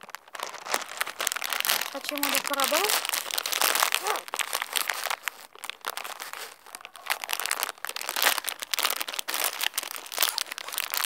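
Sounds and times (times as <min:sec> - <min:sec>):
snack bag crinkling: 0:00.0 - 0:11.0.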